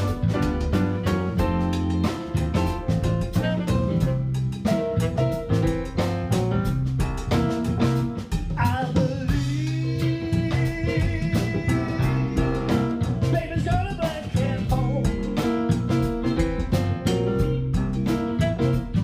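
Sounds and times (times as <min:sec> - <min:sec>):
bass line: 0:00.0 - 0:19.0
drum kit beat: 0:00.0 - 0:19.0.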